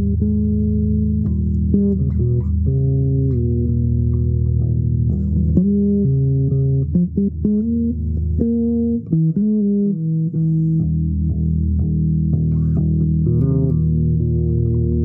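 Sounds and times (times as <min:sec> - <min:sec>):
low held instrumental notes: 0:00.0 - 0:15.0.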